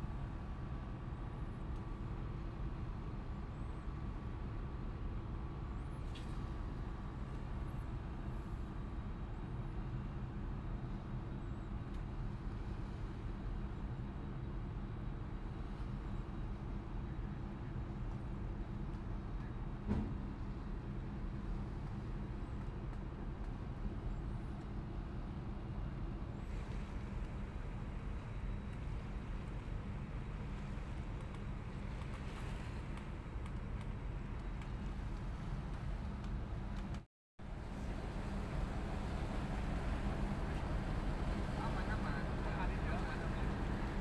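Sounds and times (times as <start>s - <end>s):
diesel engine low rumble: 0.0s - 44.0s
hiss of wind and water: 0.0s - 44.0s.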